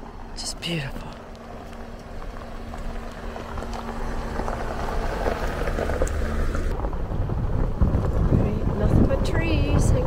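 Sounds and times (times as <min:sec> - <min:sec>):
tyres crunching gravel: 0:00.0 - 0:09.7
vehicle engine hum: 0:00.0 - 0:10.0.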